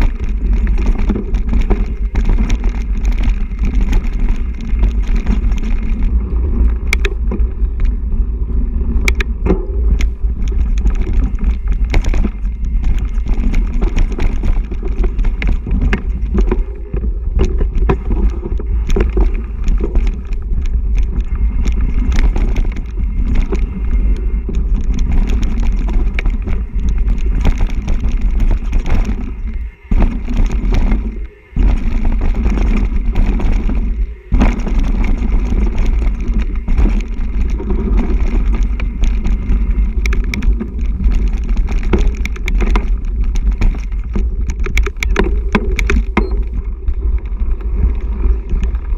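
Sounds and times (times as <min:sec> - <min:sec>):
bike clicks and rattles: 0:00.0 - 0:48.9
wind and tyre rumble: 0:00.0 - 0:48.9.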